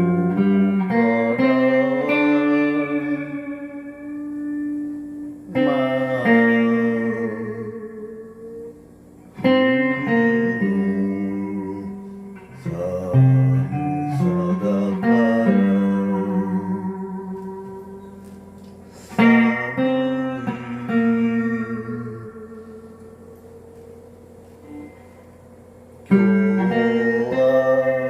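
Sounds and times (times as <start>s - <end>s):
guitar chords strummed: 0.0s - 28.0s.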